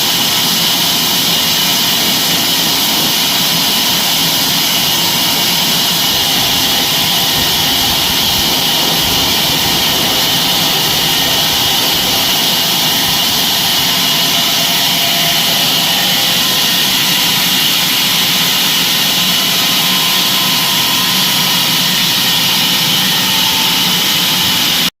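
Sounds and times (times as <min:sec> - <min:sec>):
bandsaw sawmill running: 0:00.0 - 0:24.9.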